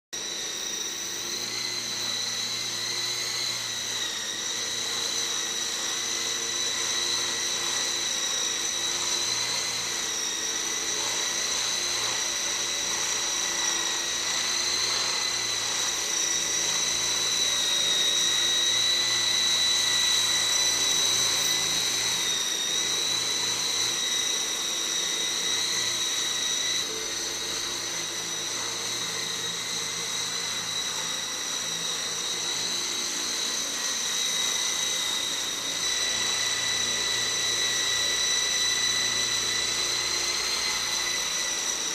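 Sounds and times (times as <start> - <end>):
model helicopter rotor whine: 0.2 - 41.9.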